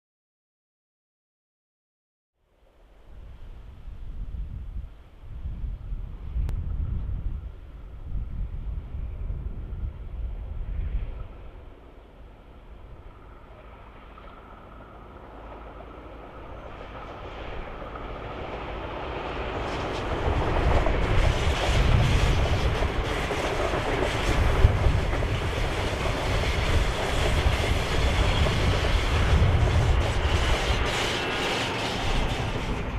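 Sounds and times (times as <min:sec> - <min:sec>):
train passing: 0:02.5 - 0:32.9.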